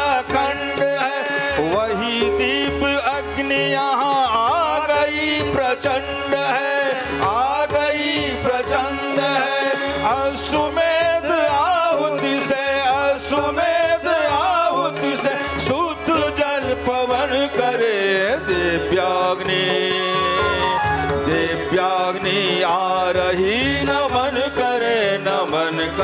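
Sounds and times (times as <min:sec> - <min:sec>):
hand drum percussion: 0:00.0 - 0:26.0.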